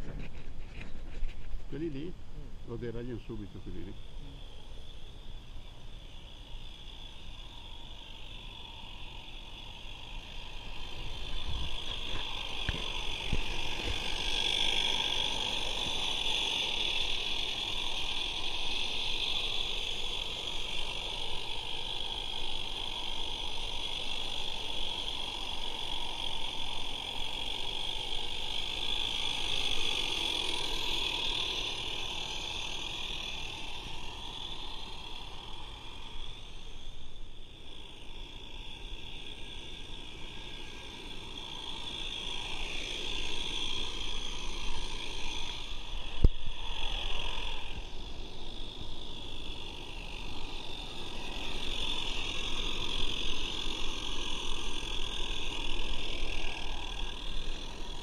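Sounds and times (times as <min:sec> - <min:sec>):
steam hissing: 0:07.4 - 0:58.0.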